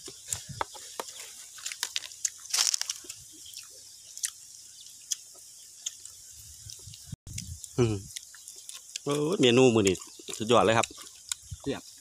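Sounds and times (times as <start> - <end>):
person crunching and chewing: 0.0 - 11.6.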